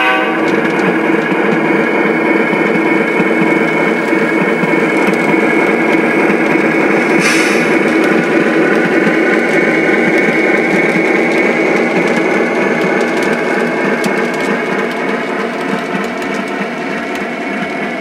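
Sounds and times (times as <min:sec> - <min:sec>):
model train cars rolling on track: 0:00.0 - 0:18.0.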